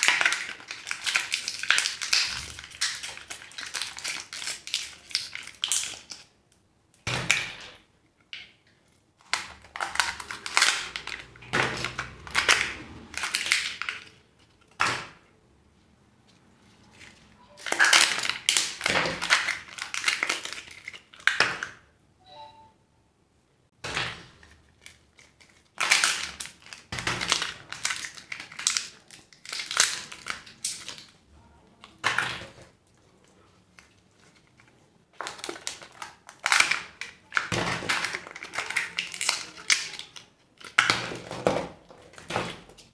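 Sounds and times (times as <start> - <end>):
candy wrappers crinkling: 0.0 - 6.5, 7.6 - 15.4, 16.5 - 21.8, 24.1 - 42.9.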